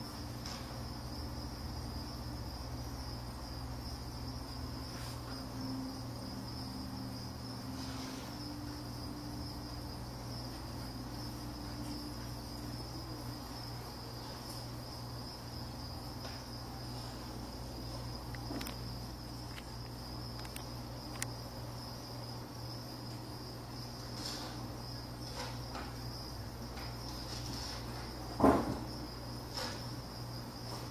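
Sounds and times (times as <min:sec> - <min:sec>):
high-pitched insect trill: 0:00.0 - 0:30.9.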